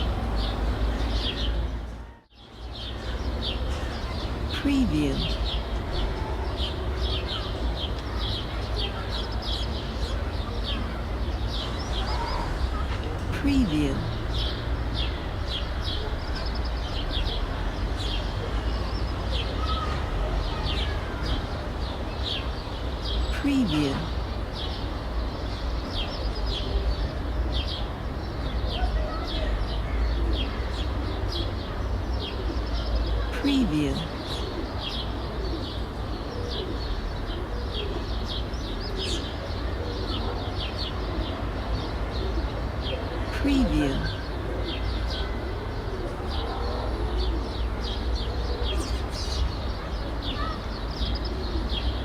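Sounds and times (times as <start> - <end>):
distant traffic hum: 0.0 - 52.0
small birds chirping: 0.0 - 52.0.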